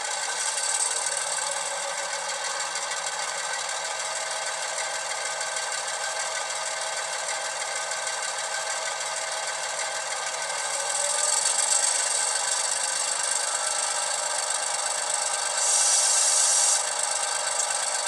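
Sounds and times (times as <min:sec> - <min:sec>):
model diesel locomotive engine sound: 0:00.0 - 0:18.0.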